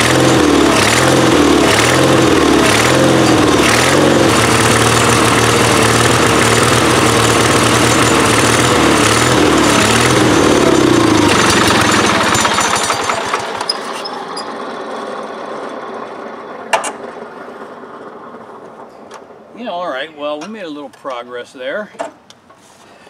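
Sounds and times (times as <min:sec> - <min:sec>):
garden tractor engine running: 0:00.0 - 0:21.2.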